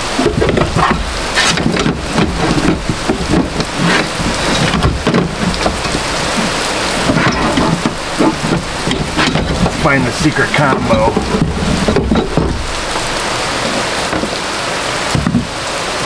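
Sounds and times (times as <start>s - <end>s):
clicks and rattles of handling: 0.0s - 14.4s
heavy rain pouring: 0.0s - 16.0s.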